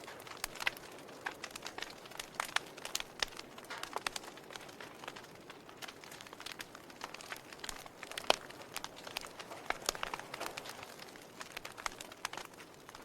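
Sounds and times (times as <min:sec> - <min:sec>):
fire crackling and popping: 0:00.0 - 0:13.0
soft fire hiss: 0:00.0 - 0:13.0.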